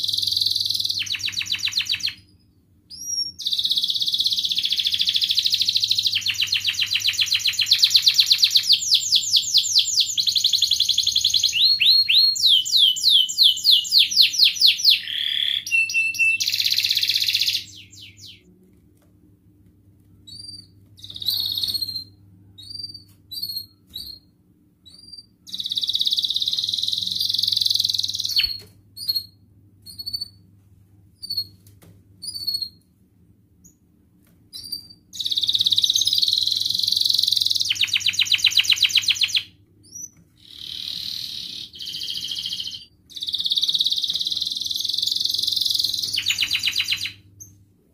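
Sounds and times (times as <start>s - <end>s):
canary chirps: 0.0s - 18.5s, 20.2s - 30.5s, 31.2s - 31.6s, 32.2s - 32.9s, 34.5s - 47.6s
canary singing trills: 0.0s - 18.5s, 20.3s - 30.5s, 34.5s - 47.6s.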